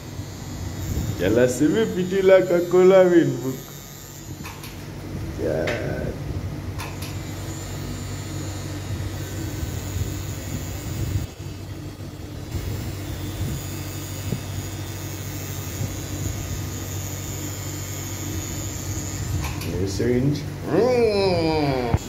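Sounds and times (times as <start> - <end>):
tattoo machine buzzing: 0.0 - 22.0.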